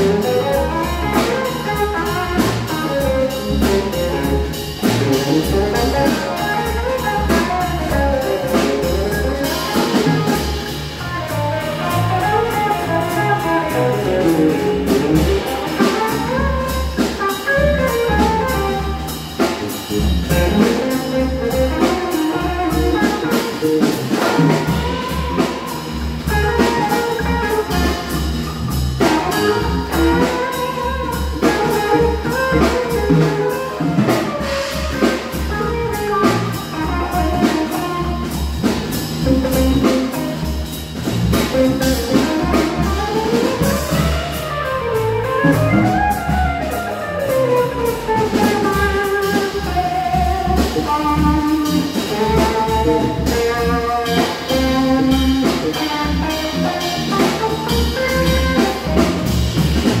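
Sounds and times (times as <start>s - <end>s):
electric guitar solo: 0.0s - 19.1s, 20.2s - 28.4s, 29.0s - 38.3s, 41.4s - 59.4s
drums: 0.0s - 60.0s
electric bass: 0.0s - 60.0s.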